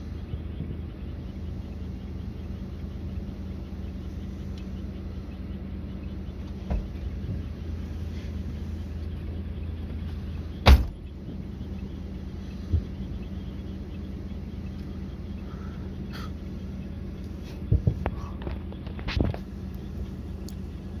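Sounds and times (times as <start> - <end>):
steady low hum: 0.0 - 21.0
faint insect chirping: 0.9 - 18.4.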